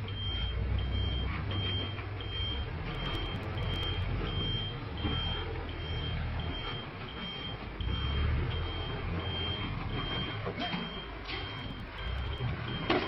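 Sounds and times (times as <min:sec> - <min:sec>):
truck engine running: 0:00.0 - 0:13.0
truck reversing alarm beeping: 0:00.0 - 0:13.0.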